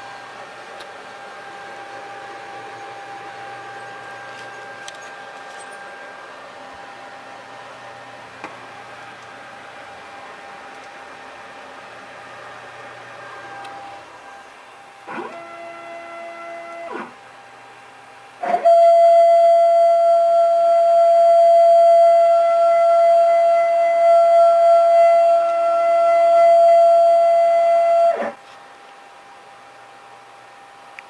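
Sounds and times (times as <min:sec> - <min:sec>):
cnc router whining: 0:00.0 - 0:28.5.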